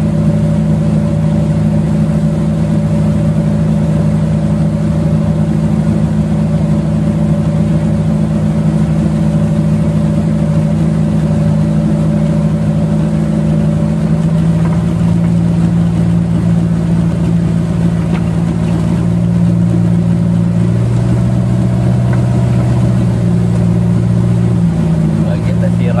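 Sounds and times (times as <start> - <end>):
motorboat engines running: 0.0 - 26.0.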